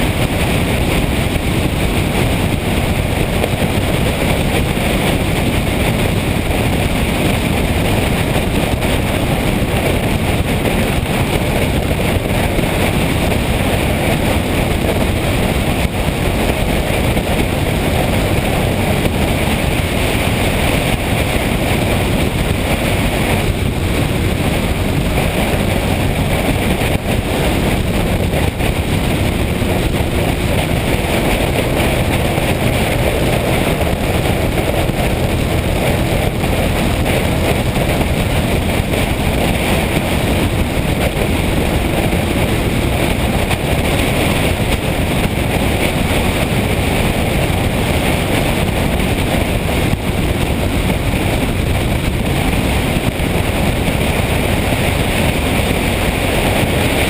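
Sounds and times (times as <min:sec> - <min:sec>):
motorcycle engine: 0:00.0 - 0:57.0
road noise: 0:00.0 - 0:57.0
wind on microphone: 0:00.0 - 0:57.0.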